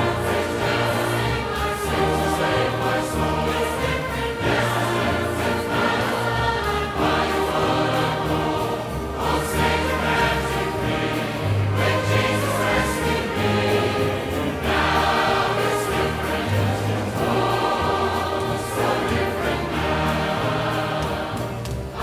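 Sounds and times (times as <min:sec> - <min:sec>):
choir singing gospel: 0:00.0 - 0:22.0
orchestral accompaniment: 0:00.0 - 0:22.0.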